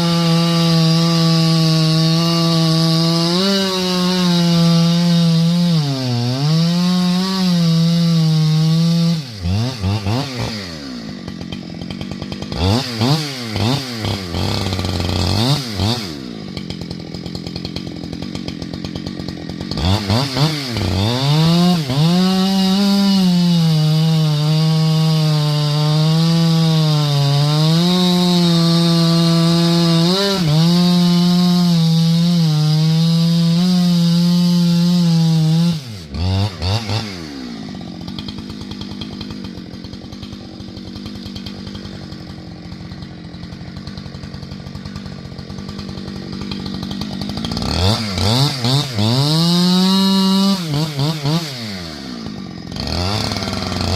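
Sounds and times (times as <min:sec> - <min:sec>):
chainsaw cutting firewood: 0:00.0 - 0:53.9.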